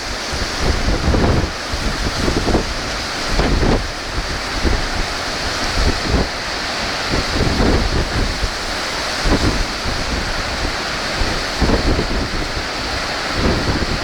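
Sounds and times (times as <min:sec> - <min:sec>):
surf rushing: 0:00.0 - 0:14.0
wind buffeting microphone: 0:00.0 - 0:14.0.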